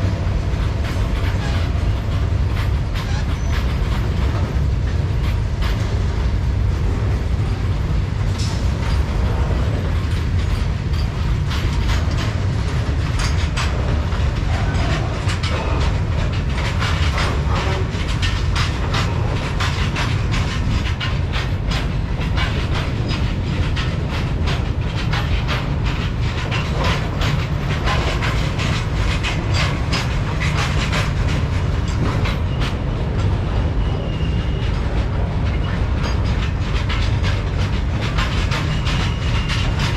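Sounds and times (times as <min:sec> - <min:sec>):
freight train rumble: 0:00.0 - 0:39.9
wheels clacking over rail joints: 0:00.0 - 0:39.9.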